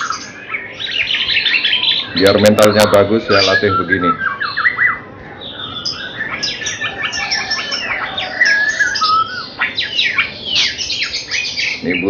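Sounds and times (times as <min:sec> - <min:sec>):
bird singing whistles and chirps: 0:00.0 - 0:12.0.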